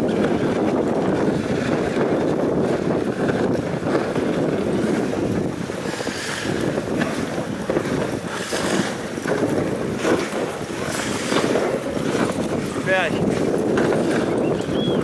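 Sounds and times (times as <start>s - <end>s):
sled runners scraping on snow: 0.0s - 15.0s
wind buffeting microphone: 0.0s - 15.0s.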